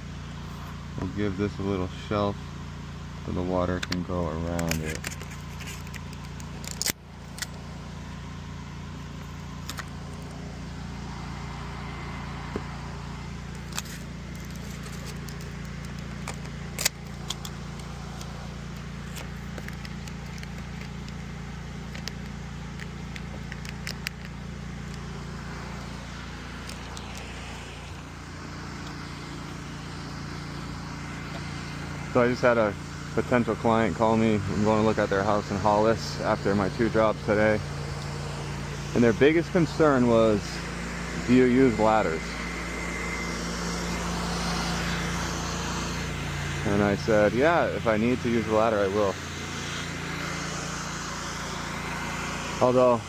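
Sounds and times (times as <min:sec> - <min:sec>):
pressure washer engine humming: 0:00.0 - 0:53.0.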